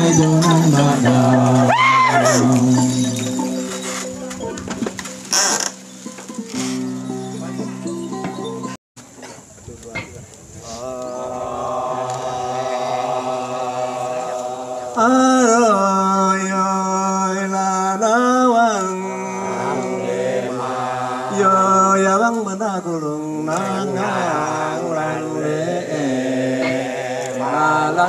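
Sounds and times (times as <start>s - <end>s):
chanted singing with long held notes: 0.0s - 7.7s, 10.6s - 28.0s.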